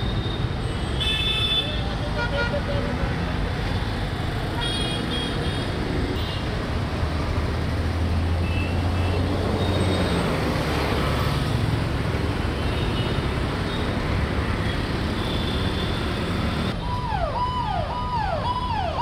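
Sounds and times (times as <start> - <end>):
slow heavy road traffic: 0.0 - 19.0.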